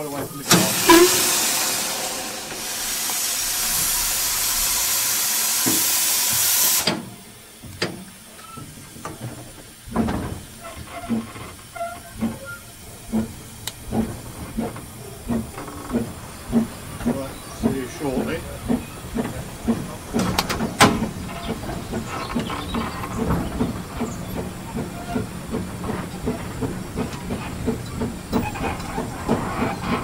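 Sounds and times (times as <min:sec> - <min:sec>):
steam hissing: 0:00.0 - 0:30.0
steam locomotive chuffing: 0:00.0 - 0:30.0.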